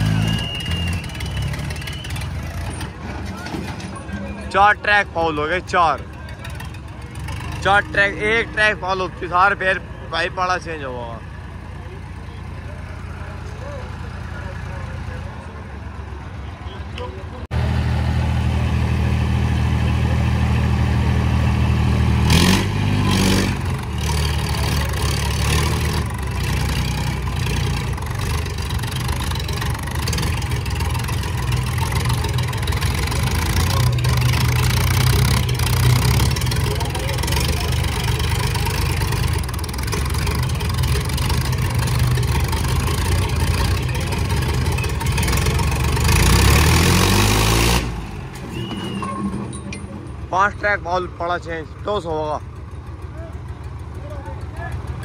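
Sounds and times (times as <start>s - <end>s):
diesel tractor engines straining: 0.0s - 55.0s.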